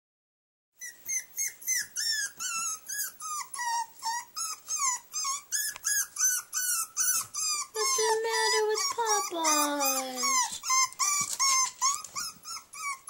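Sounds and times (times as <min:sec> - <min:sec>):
puppy whining yelps: 0:00.8 - 0:13.0.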